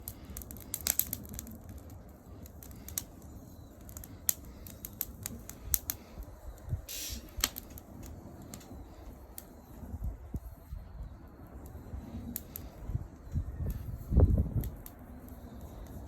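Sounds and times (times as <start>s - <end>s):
fire hiss: 0.0s - 16.0s
wood fire crackling: 0.0s - 16.0s.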